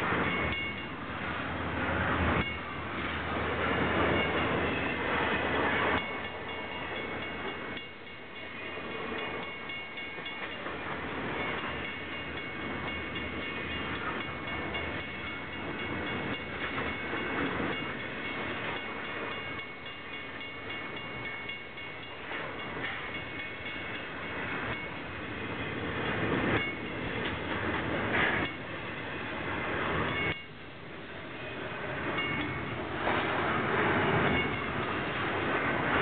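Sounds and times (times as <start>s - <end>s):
freight train wheels on rails: 0.0s - 36.0s.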